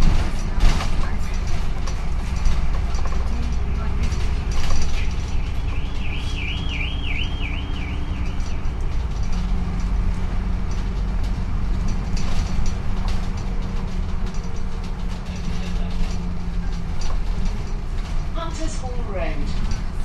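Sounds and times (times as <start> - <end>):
bodywork rattling: 0.0 - 20.0
bus engine rumble: 0.0 - 20.0
low engine hum: 0.0 - 20.0.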